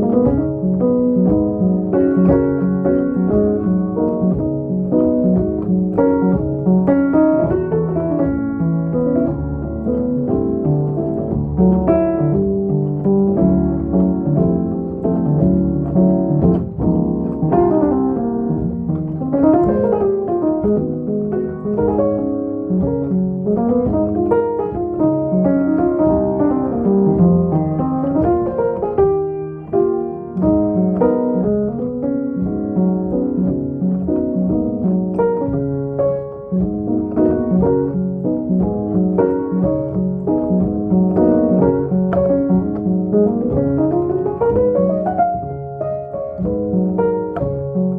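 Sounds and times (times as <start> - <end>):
keyboard chords: 0.0 - 47.9.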